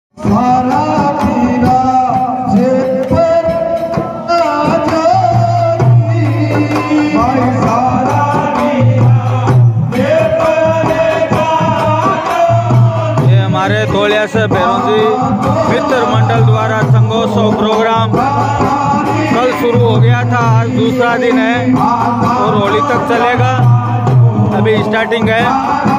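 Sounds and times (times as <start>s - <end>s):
frame drums beating: 0.2s - 25.9s
person singing folk song: 0.2s - 25.9s.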